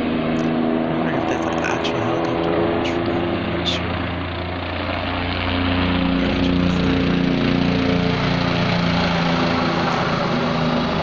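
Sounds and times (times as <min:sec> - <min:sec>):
aircraft engine droning overhead: 0:00.0 - 0:11.0.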